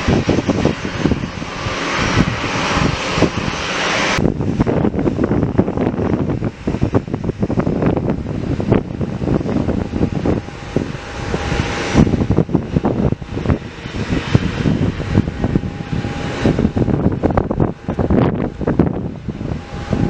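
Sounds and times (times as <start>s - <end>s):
airliner engines running: 0.0s - 20.0s
wind buffeting on microphone: 0.0s - 20.0s.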